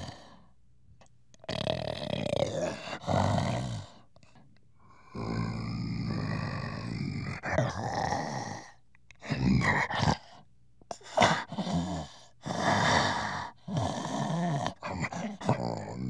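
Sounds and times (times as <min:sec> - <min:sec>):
gorilla breathing heavily: 0:00.0 - 0:00.5, 0:01.5 - 0:08.7, 0:09.6 - 0:16.0.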